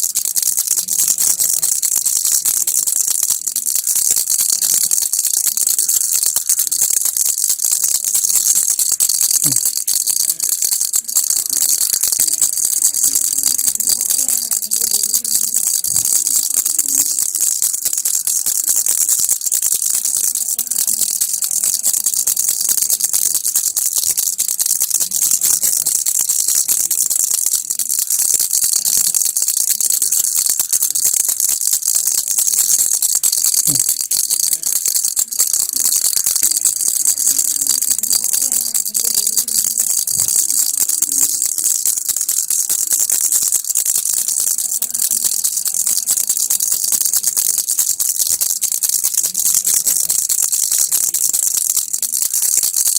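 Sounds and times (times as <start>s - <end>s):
baby's toy rattle shaking: 0.0s - 52.9s.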